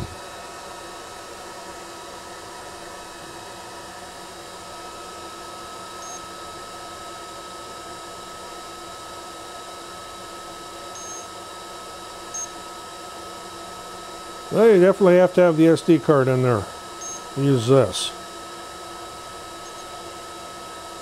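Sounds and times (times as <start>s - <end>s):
fan whir with high whine: 0.0s - 21.0s.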